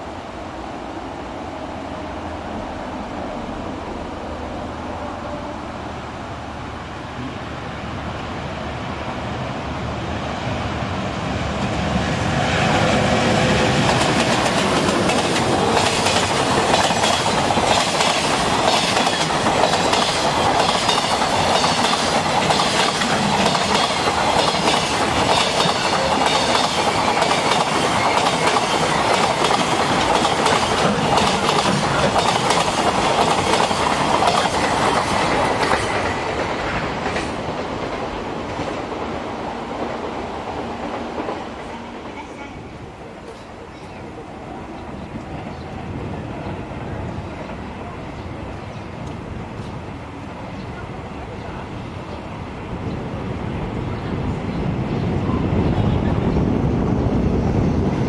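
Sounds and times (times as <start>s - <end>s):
freight train passing: 0.0s - 58.0s.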